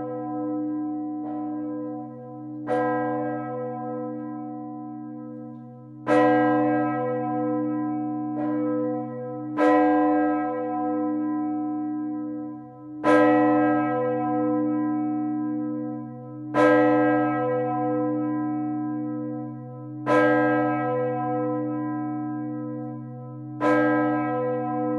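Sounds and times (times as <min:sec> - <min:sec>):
church bell ringing: 0:00.0 - 0:24.9.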